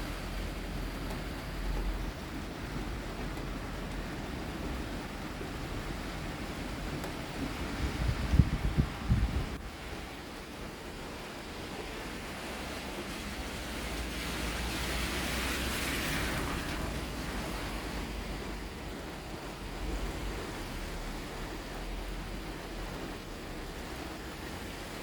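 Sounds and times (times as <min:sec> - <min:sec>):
wind and rain rushing: 0:00.0 - 0:25.0.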